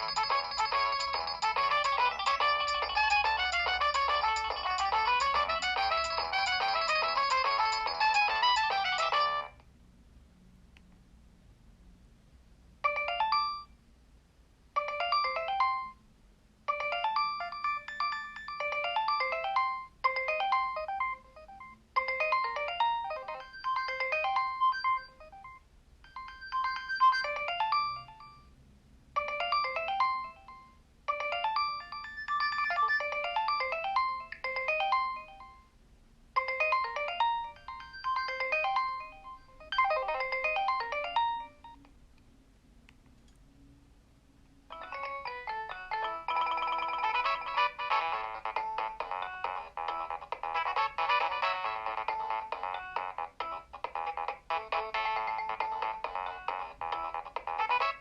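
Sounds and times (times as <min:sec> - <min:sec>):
mobile phone ringtone melody: 0:00.0 - 0:09.6, 0:12.8 - 0:13.7, 0:14.8 - 0:16.0, 0:16.7 - 0:28.5, 0:29.2 - 0:35.8, 0:36.4 - 0:41.8, 0:44.7 - 0:58.0.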